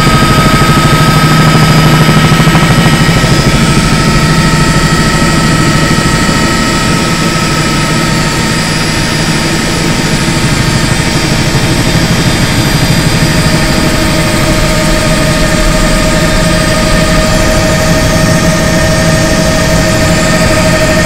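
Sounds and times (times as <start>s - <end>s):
helicopter engine and rotor drone: 0.0s - 21.0s
whining tones: 0.0s - 21.0s.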